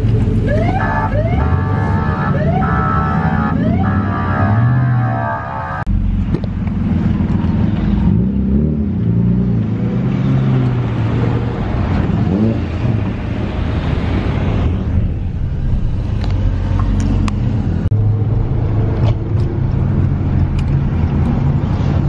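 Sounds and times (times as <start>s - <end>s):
car engines running: 0.0s - 22.0s.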